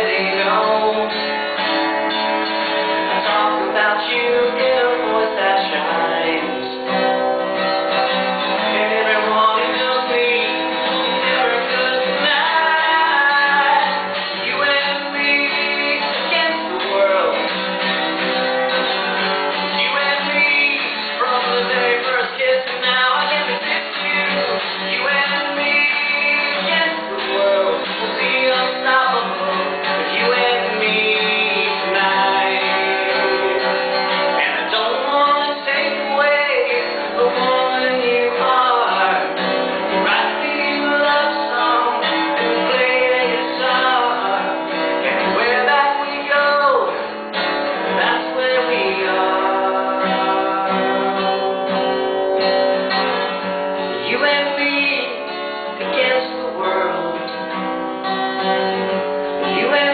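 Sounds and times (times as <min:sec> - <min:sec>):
man singing: 0:00.0 - 0:51.9, 0:53.9 - 0:57.7, 0:59.4 - 0:59.9
acoustic guitar strumming: 0:00.0 - 0:59.9.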